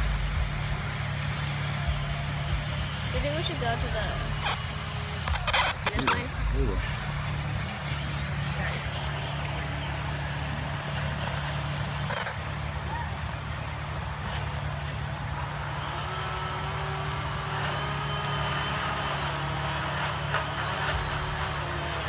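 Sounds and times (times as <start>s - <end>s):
distant voices calling out: 0.0s - 22.0s
low mechanical hum: 0.0s - 22.0s.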